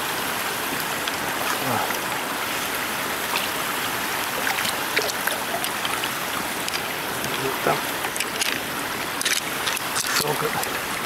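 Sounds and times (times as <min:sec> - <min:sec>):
water rushing through dam: 0:00.0 - 0:11.0
small splashes and drips: 0:00.8 - 0:11.0.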